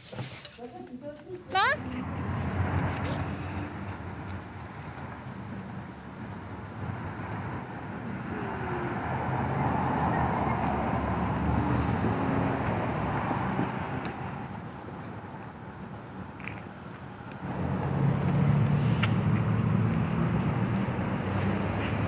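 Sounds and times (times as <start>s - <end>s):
road traffic rumble: 0.0s - 22.0s
vehicle engine: 1.5s - 22.0s.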